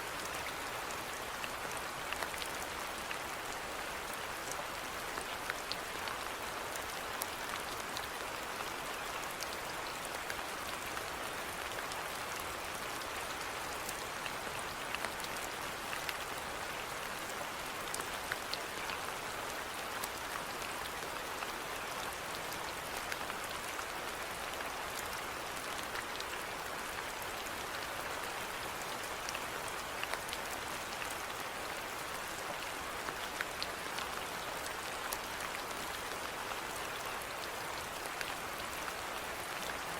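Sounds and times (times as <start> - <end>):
steady rainfall: 0.0 - 39.9
raindrops ticking on a surface: 0.1 - 39.9.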